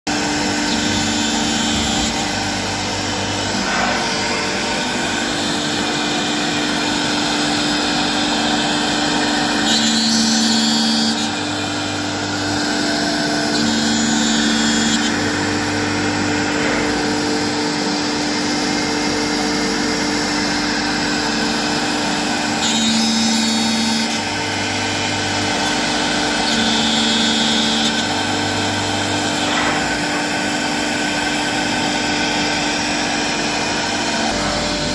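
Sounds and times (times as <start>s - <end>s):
cnc router spindle cutting: 0.1s - 34.9s.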